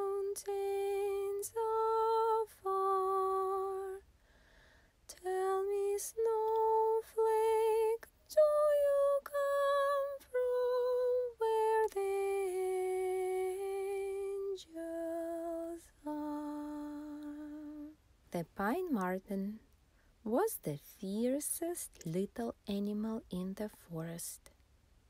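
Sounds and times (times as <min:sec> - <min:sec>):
woman singing a lullaby: 0:00.0 - 0:04.0, 0:05.1 - 0:19.6, 0:20.2 - 0:24.5.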